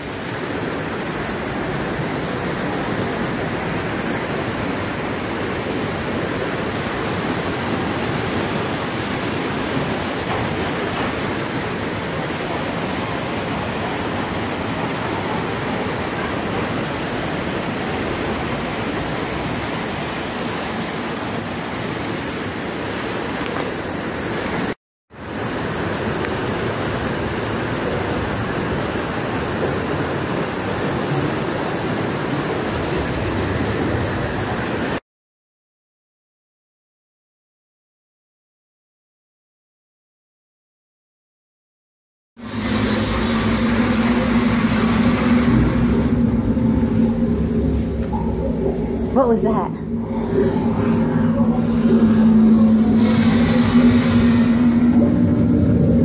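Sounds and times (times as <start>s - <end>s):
waterfall rushing: 0.0s - 35.0s, 42.4s - 56.0s.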